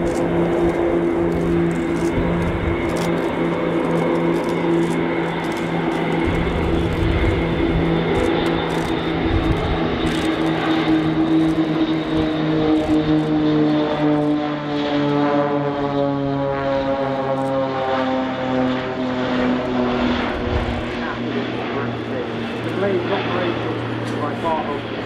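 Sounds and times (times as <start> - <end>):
propeller aircraft flying past: 0.0 - 25.0.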